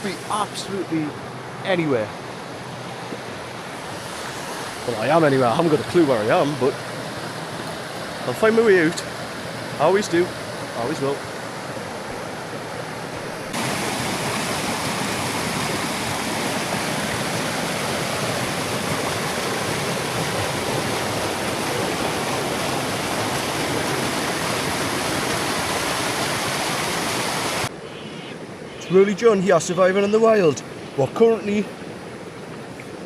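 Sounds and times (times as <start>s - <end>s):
waterfall rushing: 0.0s - 27.7s.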